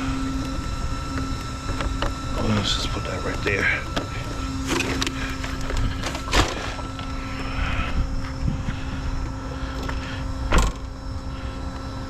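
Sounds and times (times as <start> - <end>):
small cooling fan whining: 0.0 - 12.0.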